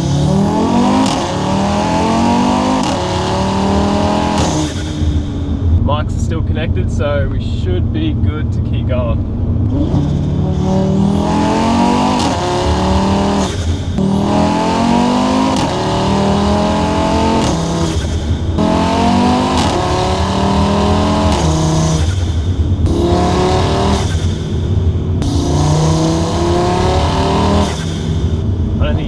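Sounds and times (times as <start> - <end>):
car engine accelerating through gears: 0.0 - 29.0.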